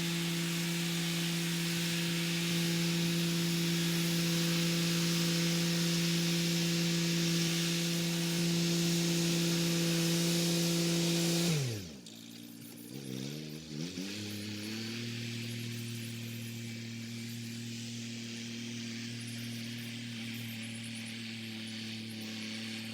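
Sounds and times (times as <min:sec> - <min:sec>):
rotary tiller hiss: 0:00.0 - 0:22.9.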